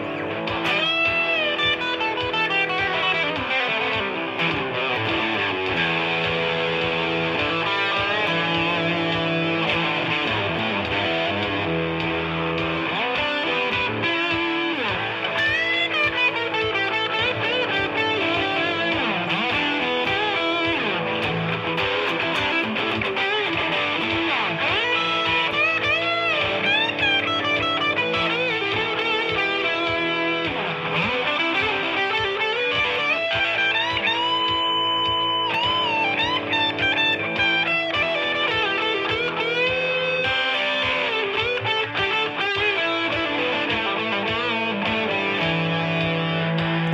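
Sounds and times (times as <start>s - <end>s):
electric guitar rock lead: 0.0s - 46.9s.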